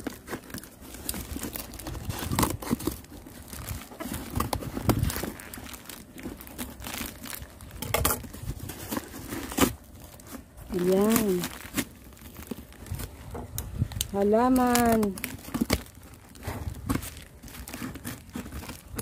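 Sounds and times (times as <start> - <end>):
cardboard tearing and crumpling: 0.0 - 19.0.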